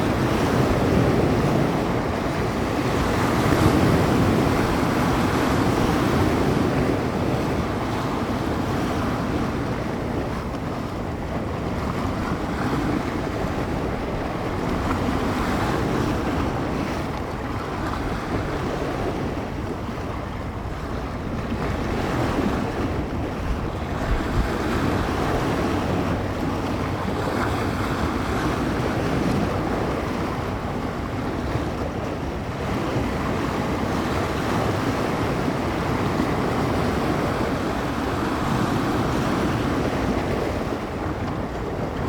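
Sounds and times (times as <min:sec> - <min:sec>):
waves washing against shore: 0:00.0 - 0:42.0
wind gusts buffeting microphone: 0:00.0 - 0:42.0.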